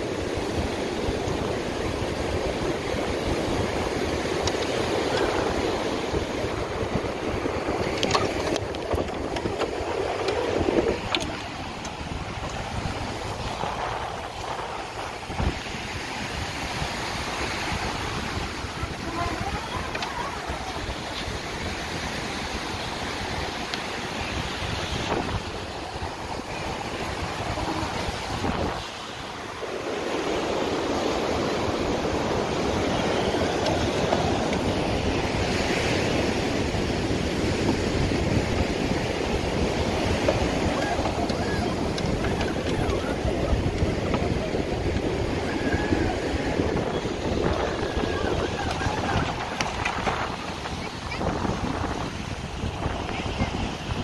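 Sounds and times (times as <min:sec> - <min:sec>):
surf washing: 0:00.0 - 0:54.0
wind buffeting microphone: 0:00.0 - 0:54.0.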